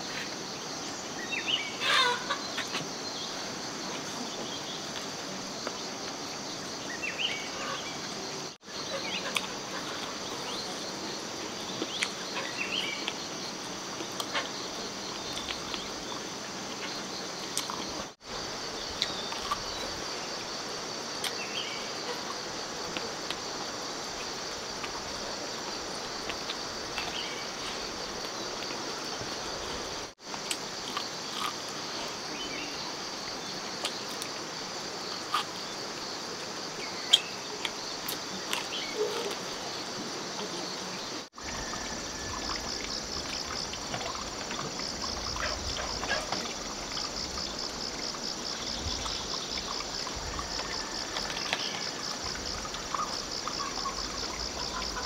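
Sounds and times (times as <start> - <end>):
insects chorus: 0.0 - 55.0
outdoor background noise: 0.0 - 55.0.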